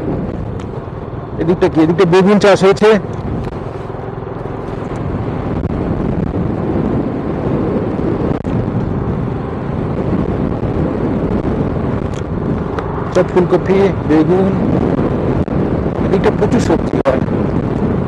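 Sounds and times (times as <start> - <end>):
motorcycle engine running: 0.0 - 16.3
road and wind noise: 0.0 - 18.0.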